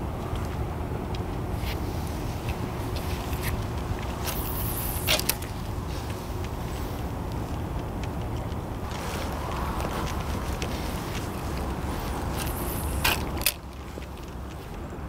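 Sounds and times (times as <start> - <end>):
low outdoor harbour rumble: 0.0 - 15.0.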